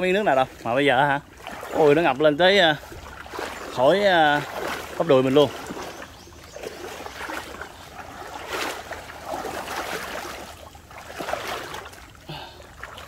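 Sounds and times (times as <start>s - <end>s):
wading through water: 0.0s - 13.0s.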